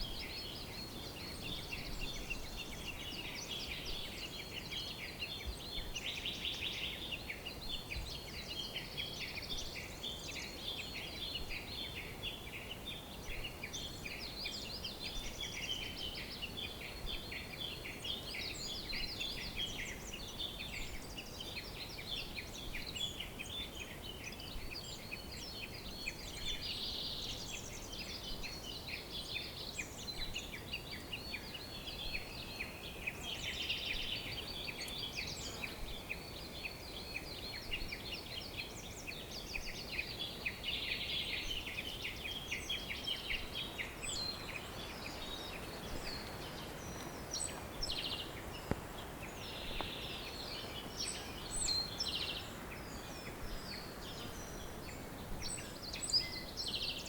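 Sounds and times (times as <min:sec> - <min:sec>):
birds chirping and singing: 0:00.0 - 0:57.0
faint hiss: 0:00.0 - 0:57.0.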